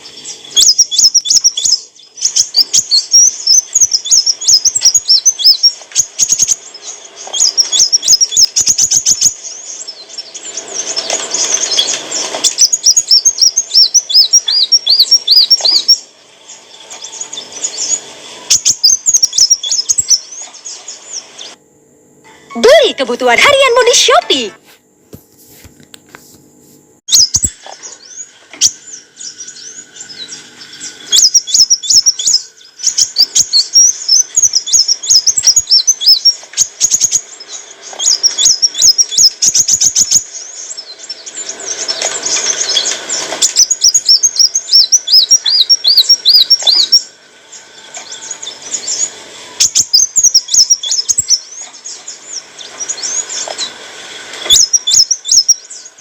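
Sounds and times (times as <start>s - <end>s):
sunbird chirping and twittering: 0.0s - 21.6s, 27.1s - 56.0s.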